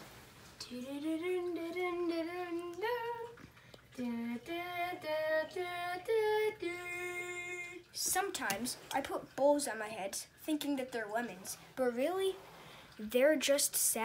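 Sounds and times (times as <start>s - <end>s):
child singing wordless tune: 0.6s - 3.4s, 4.0s - 14.0s.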